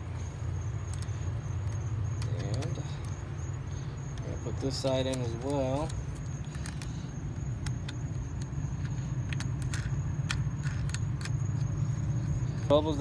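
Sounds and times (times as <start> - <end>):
steady low rumble: 0.0 - 13.0
hand tools clicking and knocking: 0.6 - 13.0.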